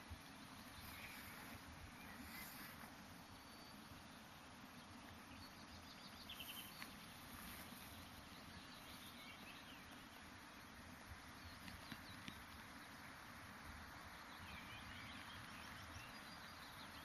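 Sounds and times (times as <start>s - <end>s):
faint bird chirps: 0.1s - 13.1s, 13.8s - 17.0s.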